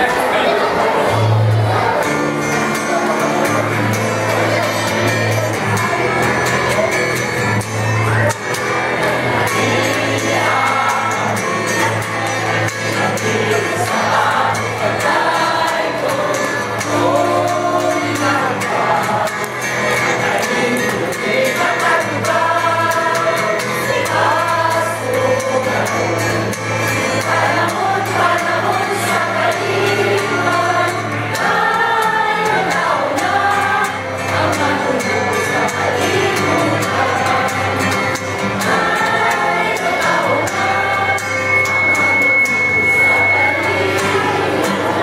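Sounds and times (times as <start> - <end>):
mixed choir singing: 0.0 - 7.5, 8.1 - 45.0
acoustic guitar: 0.0 - 45.0.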